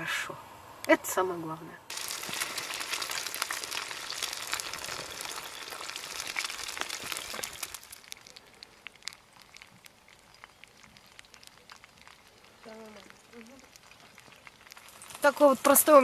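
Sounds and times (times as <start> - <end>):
eggs sizzling in a pan: 1.9 - 16.0.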